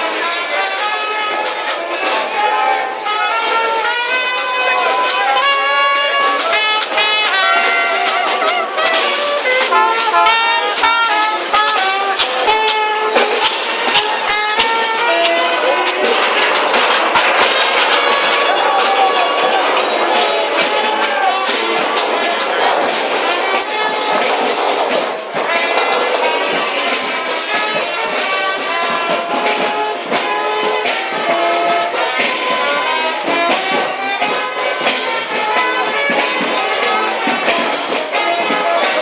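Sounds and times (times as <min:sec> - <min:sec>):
marching brass band playing: 0:00.0 - 0:39.0
sharp percussion hits: 0:00.2 - 0:39.0.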